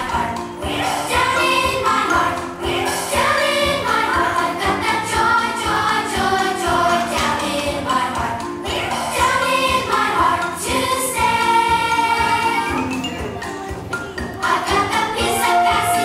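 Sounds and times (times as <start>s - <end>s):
group of voices singing: 0.0s - 12.9s, 14.3s - 16.0s
instrumental backing with beat: 0.0s - 16.0s.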